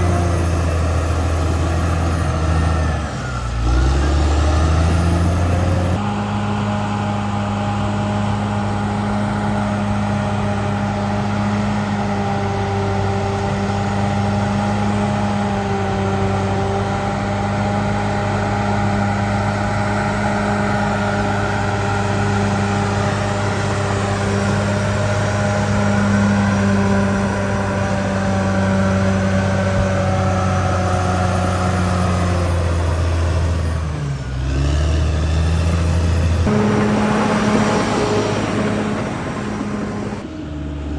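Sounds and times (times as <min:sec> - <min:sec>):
bulldozer diesel engine droning: 0:00.0 - 0:40.9
high steady engine whine: 0:00.0 - 0:40.9.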